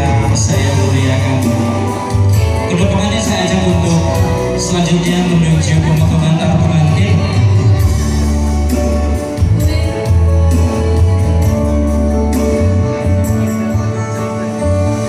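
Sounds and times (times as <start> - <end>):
music with strong bass beat: 0.0 - 15.0.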